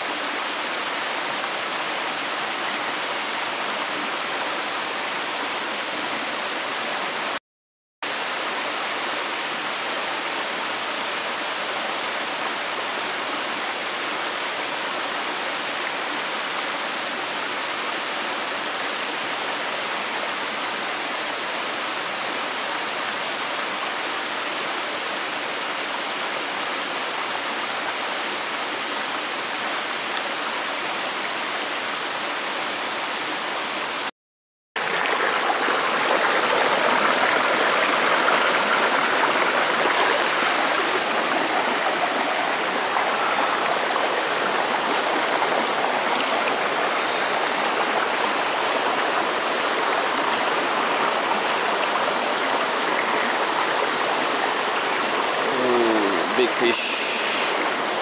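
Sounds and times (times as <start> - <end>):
stream rushing over rocks: 0.0 - 7.4, 8.1 - 34.1, 34.8 - 58.0.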